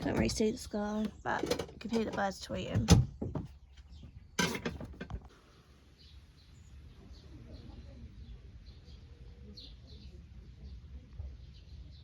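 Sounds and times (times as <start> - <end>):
birds chirping: 0.0 - 12.0
low steady background rumble: 0.0 - 12.0.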